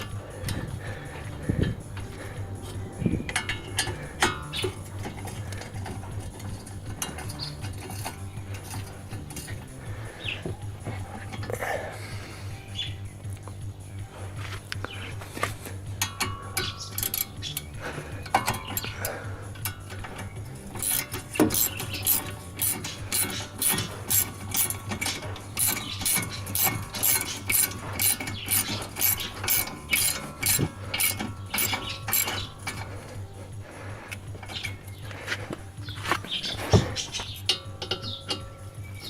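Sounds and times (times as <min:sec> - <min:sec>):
ratchet wrench clicking: 0:00.0 - 0:11.6, 0:14.8 - 0:39.0.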